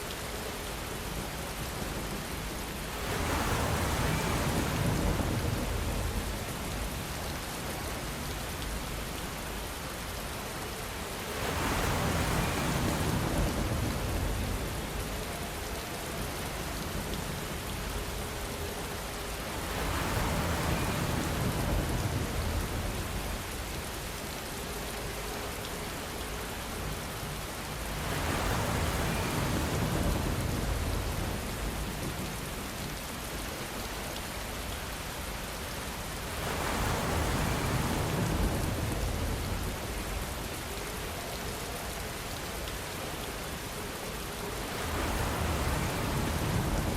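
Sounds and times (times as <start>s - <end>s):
rain hissing: 0.0s - 46.9s.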